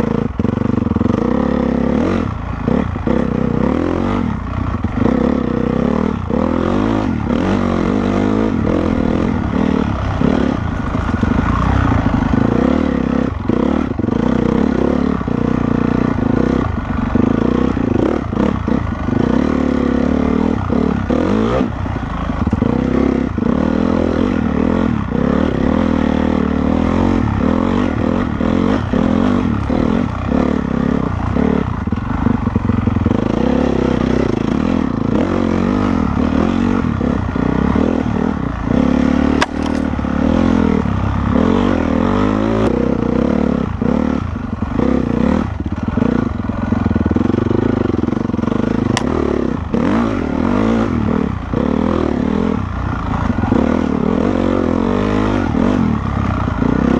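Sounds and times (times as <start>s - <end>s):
motorcycle engine revving off-road: 0.0s - 56.9s.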